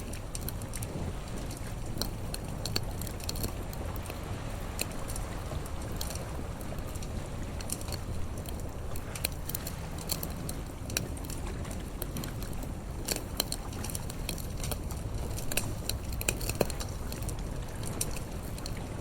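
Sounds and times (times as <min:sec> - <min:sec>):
bonfire crackling and popping: 0:00.0 - 0:19.0
sea waves rumbling: 0:00.0 - 0:19.0.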